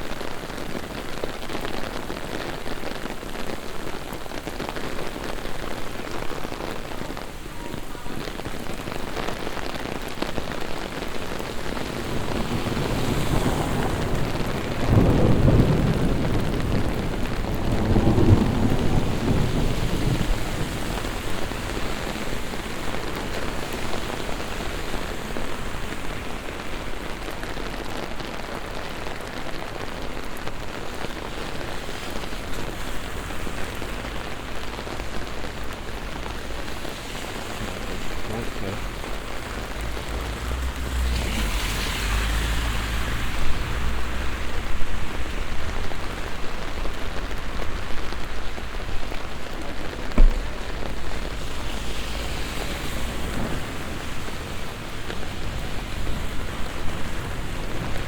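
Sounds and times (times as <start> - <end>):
heavy rain on street: 0.0 - 58.0
thunder rumbling: 4.5 - 58.0.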